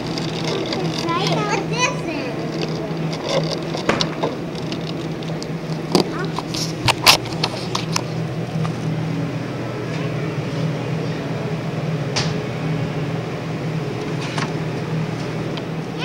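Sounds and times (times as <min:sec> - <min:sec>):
refrigerated cooler humming: 0:00.0 - 0:16.0.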